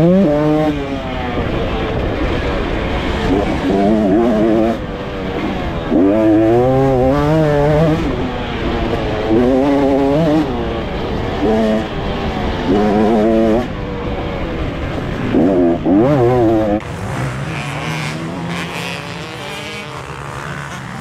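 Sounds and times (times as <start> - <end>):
pit bike engine revving: 0.0 - 21.0.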